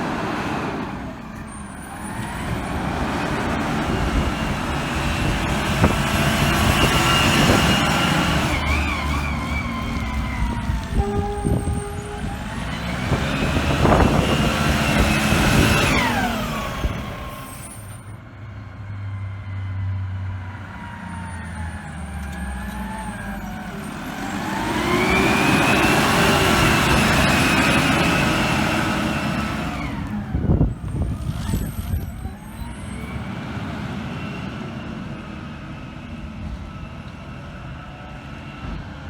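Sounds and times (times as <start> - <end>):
truck brakes squealing: 0.0 - 19.9, 20.7 - 37.0
diesel engine running low: 0.0 - 39.0.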